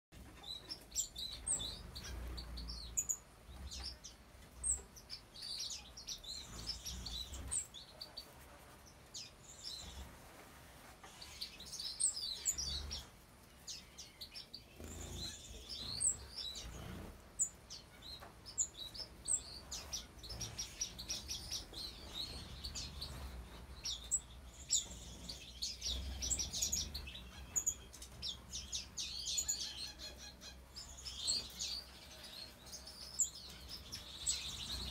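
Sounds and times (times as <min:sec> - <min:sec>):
finches chirping: 0:00.3 - 0:08.3, 0:11.0 - 0:34.9.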